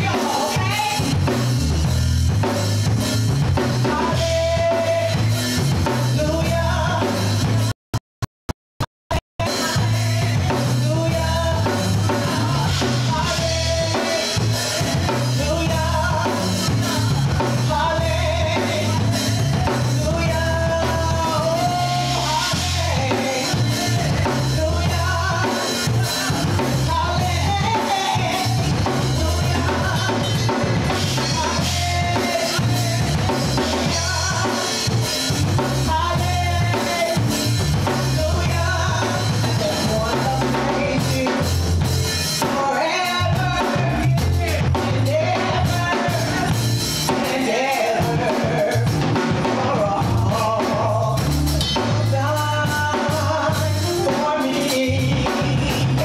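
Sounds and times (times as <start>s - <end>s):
woman singing into microphone: 0.0s - 1.2s, 3.8s - 5.5s, 9.4s - 41.5s, 42.4s - 51.3s, 52.0s - 56.0s
live band with drums: 0.0s - 7.7s, 9.4s - 56.0s.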